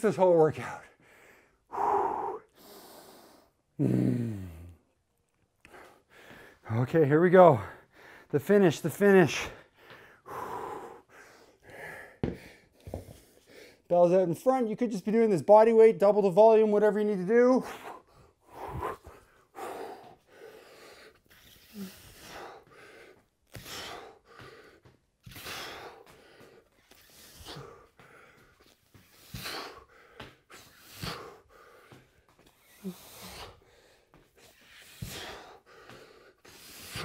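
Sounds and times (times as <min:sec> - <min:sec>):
man breathing hard: 0:00.6 - 0:04.8, 0:05.6 - 0:06.7, 0:07.6 - 0:08.4, 0:09.3 - 0:13.9, 0:17.6 - 0:37.0.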